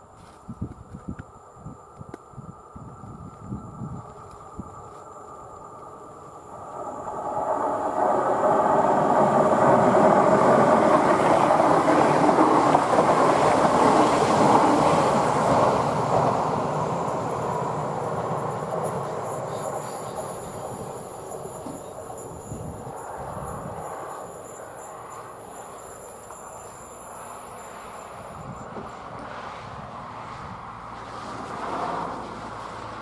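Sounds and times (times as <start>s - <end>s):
train passing: 1.3s - 33.0s.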